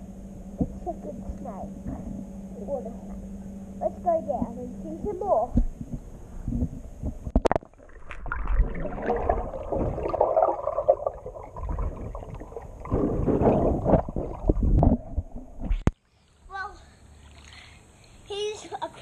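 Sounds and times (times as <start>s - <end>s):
underwater sloshing and gurgling: 0.2s - 15.9s.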